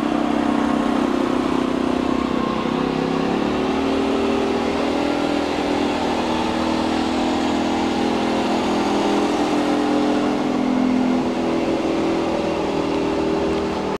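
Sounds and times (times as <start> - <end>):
model engine buzzing: 0.0 - 13.9.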